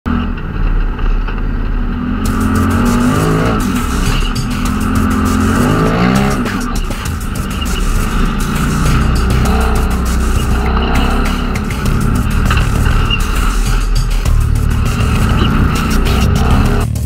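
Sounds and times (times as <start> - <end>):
off-road vehicle engine revving: 0.1 - 17.0.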